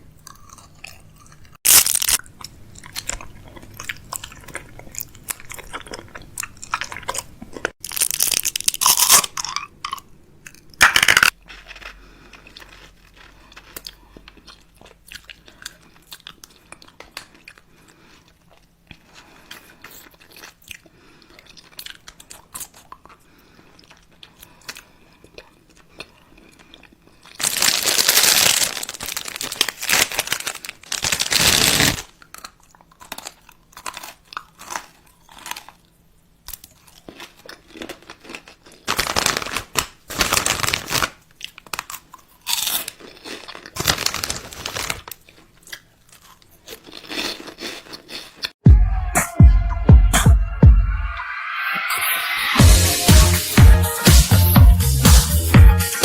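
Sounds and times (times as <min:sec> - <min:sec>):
person crunching crisp food: 0:00.2 - 0:48.6.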